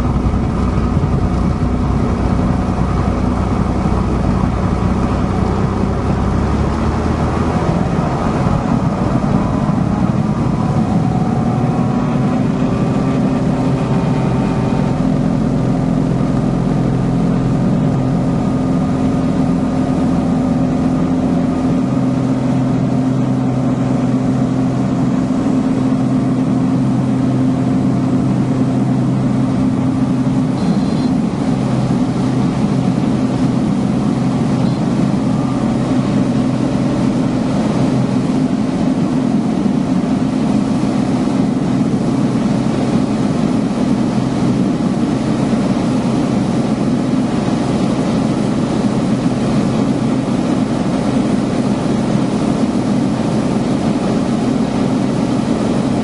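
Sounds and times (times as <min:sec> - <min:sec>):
propeller plane engine at full power: 0:00.0 - 0:56.0.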